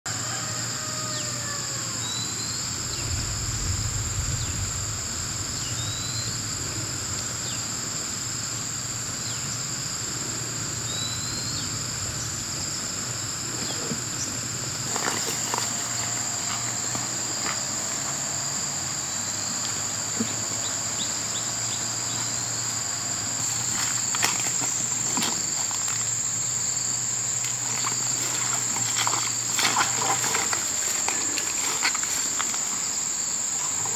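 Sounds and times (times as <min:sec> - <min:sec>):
high-pitched insect chorus: 0:00.1 - 0:33.9.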